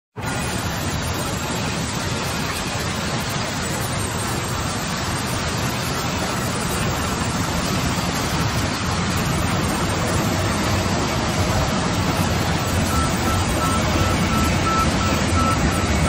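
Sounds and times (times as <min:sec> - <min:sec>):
low machinery hum: 0:00.2 - 0:16.0.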